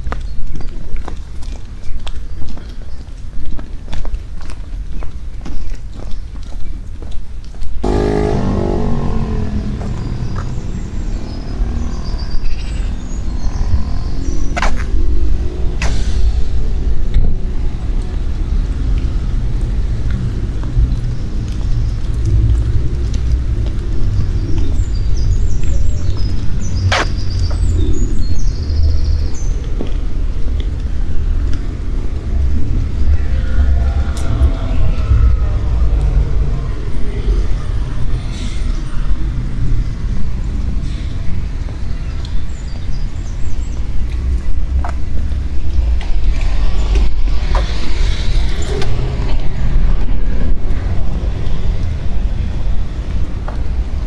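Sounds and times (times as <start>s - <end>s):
small birds chirping: 0.0s - 15.6s, 18.4s - 49.7s
low street rumble: 0.0s - 54.0s.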